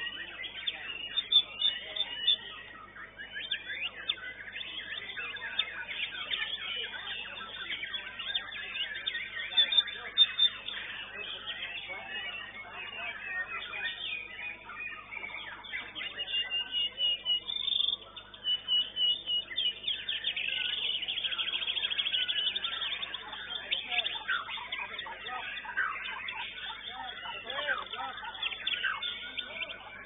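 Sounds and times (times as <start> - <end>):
bird singing varied phrases: 0.0 - 30.0
people talking: 0.0 - 30.0.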